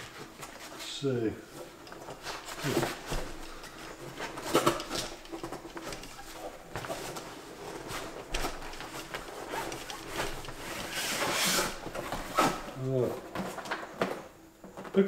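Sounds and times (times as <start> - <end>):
scrapes and knocks of bag: 1.6 - 15.0.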